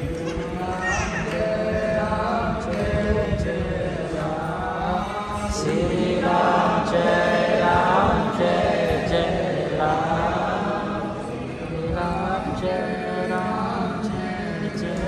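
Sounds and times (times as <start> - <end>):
group of voices chanting a hymn: 0.0 - 15.0.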